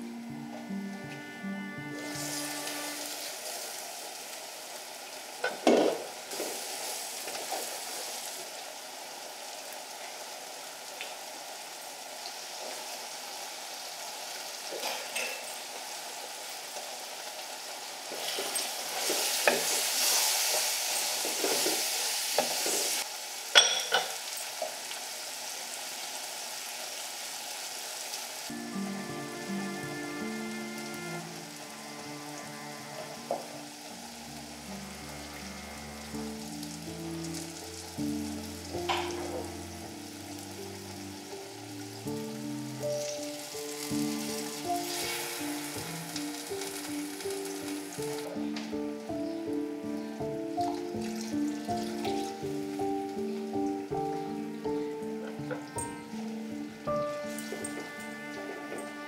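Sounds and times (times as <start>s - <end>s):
curry sizzling in clay pot: 0.0s - 59.0s.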